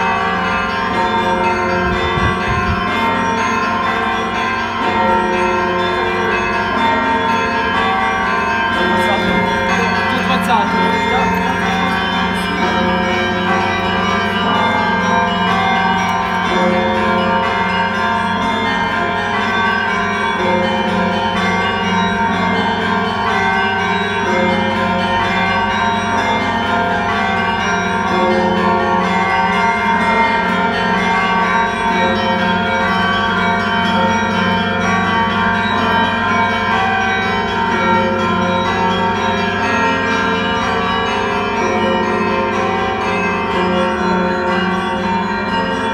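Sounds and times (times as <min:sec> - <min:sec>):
church bells pealing: 0:00.0 - 0:45.9.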